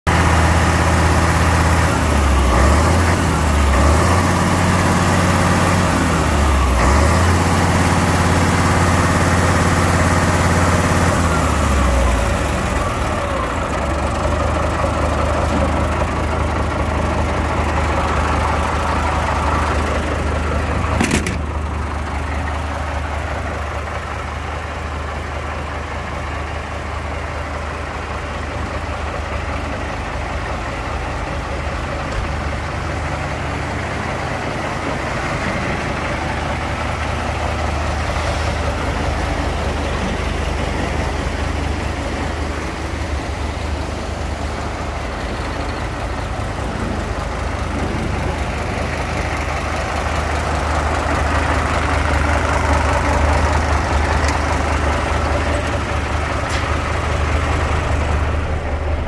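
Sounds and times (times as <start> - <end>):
diesel truck engine idling: 0.1 - 59.0.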